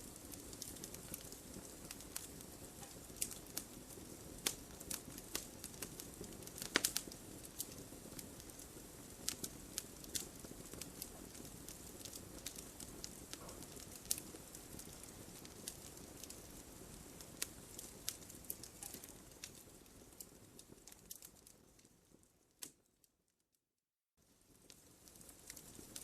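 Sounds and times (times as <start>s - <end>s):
logs crackling and popping: 0.0s - 22.9s, 24.5s - 26.0s
low flame hiss: 0.0s - 23.1s, 24.2s - 26.0s.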